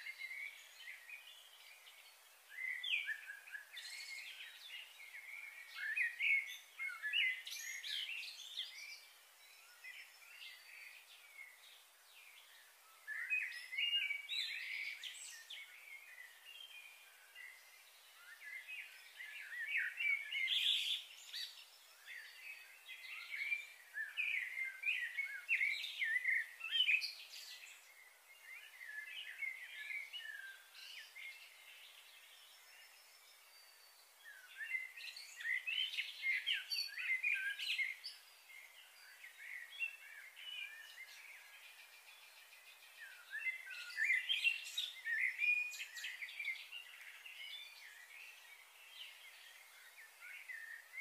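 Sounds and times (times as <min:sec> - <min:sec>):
birds chirping and twittering: 0:00.0 - 0:51.0.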